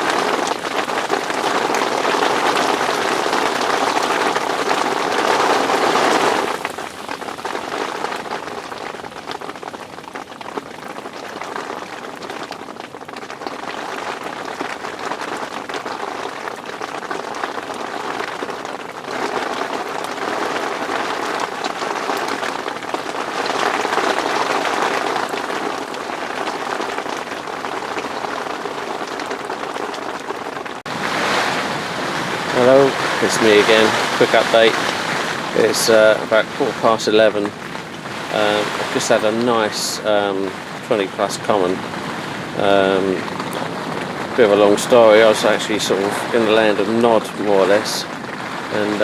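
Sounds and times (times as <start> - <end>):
heavy rain hissing: 0.0 - 49.0.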